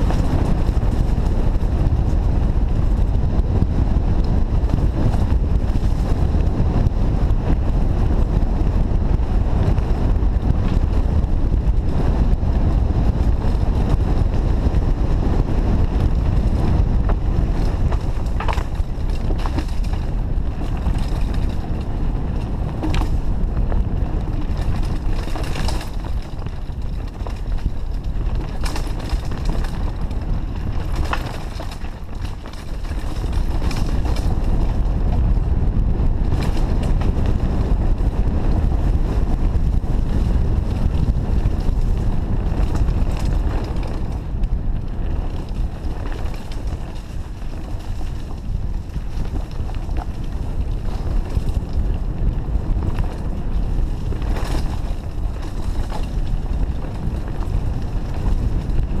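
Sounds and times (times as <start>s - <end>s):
bike knocks and rattles: 0.0s - 59.0s
bike tyres rumbling over trail: 0.0s - 59.0s
wind buffeting microphone: 0.0s - 59.0s.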